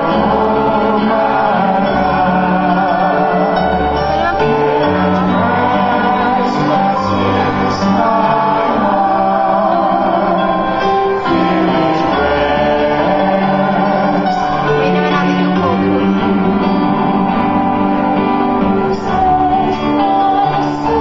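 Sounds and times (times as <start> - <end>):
man and woman singing a psalm: 0.0 - 17.5, 18.7 - 21.0
instrumental accompaniment: 0.0 - 21.0.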